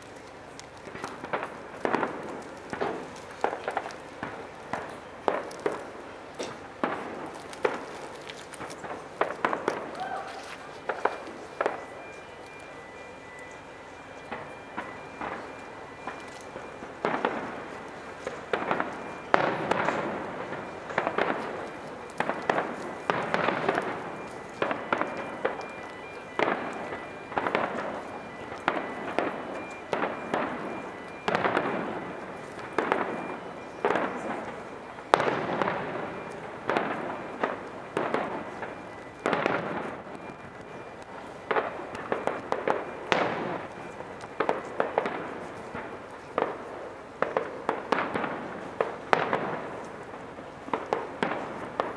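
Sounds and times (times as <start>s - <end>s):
firework bangs with crackling: 0.0s - 51.9s.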